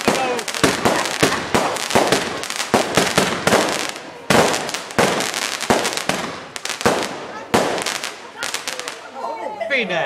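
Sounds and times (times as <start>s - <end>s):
fireworks bangs: 0.0s - 9.2s
fireworks crackling: 0.0s - 9.2s.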